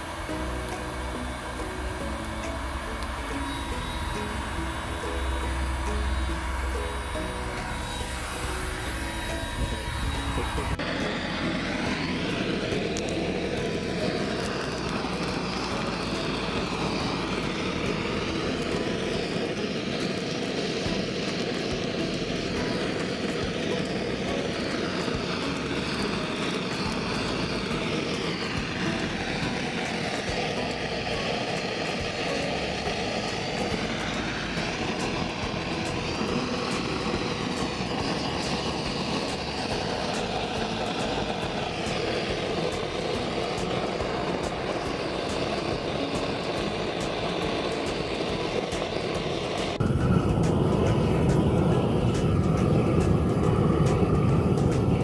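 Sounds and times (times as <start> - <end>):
gas burner flame rushing: 0.0 - 55.0.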